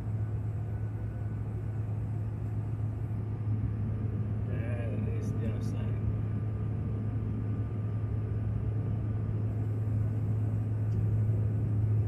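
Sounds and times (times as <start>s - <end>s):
airliner cabin engine drone: 0.0s - 12.0s
constant low hum: 0.0s - 12.0s.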